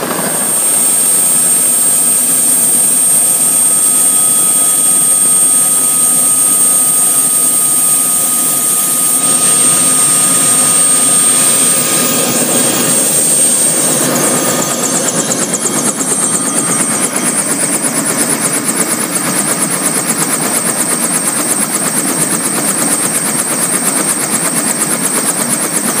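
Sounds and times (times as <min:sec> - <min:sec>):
helicopter rotor beating: 0:00.0 - 0:26.0
helicopter turbine whine: 0:00.0 - 0:26.0.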